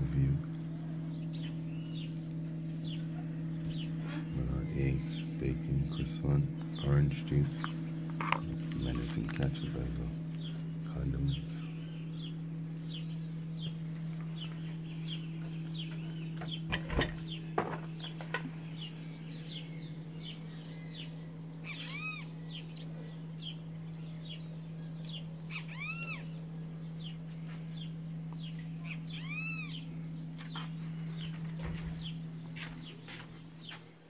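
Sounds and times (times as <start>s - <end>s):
arched bird calls: 0.0s - 34.0s
steady low hum: 0.0s - 34.0s
wild birds chirping: 0.0s - 34.0s.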